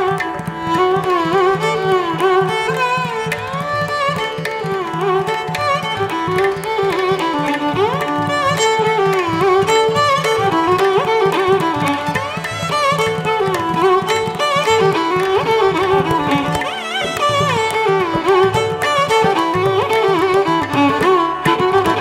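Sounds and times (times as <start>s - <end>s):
sliding string melody: 0.0s - 22.0s.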